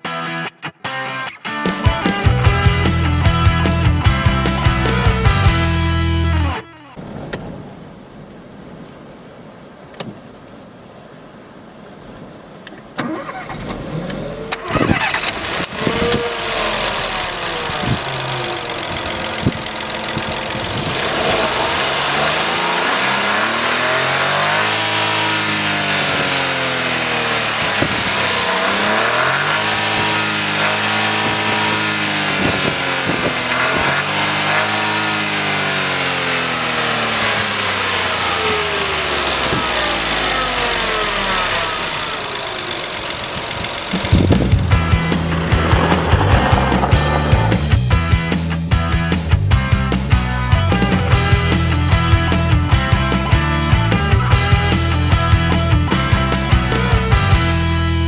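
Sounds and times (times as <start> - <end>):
car engine starting and revving: 7.0 - 9.1, 12.9 - 58.0.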